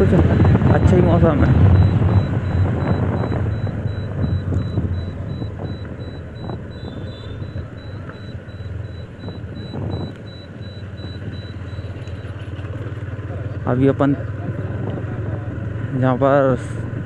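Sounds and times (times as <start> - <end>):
motorcycle engine running: 0.0 - 17.0
road noise rushing: 0.0 - 17.0.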